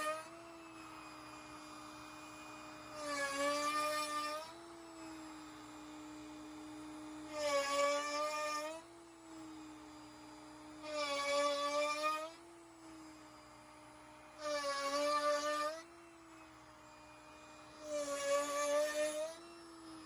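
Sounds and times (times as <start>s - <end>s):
router bit whining: 0.0s - 20.0s
router cutting into wood: 0.0s - 20.0s.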